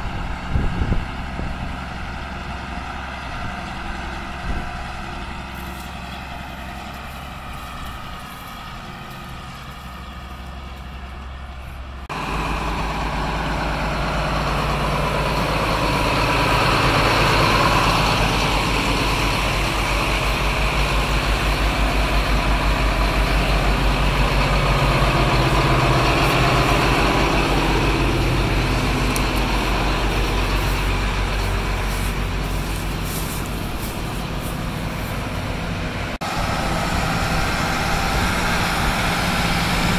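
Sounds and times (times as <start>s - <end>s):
tractor diesel engine pulsing: 0.0s - 39.9s.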